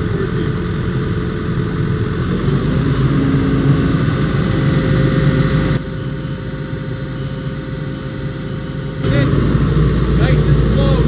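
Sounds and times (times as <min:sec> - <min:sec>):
excavator diesel engine under load: 0:00.0 - 0:07.0, 0:08.5 - 0:11.0.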